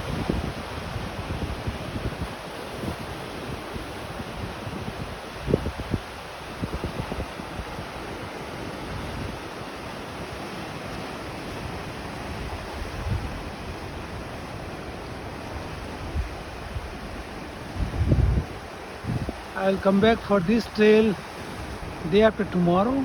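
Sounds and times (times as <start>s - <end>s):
ocean waves breaking: 0.0s - 23.0s
wind rumbling on microphone: 0.0s - 23.0s.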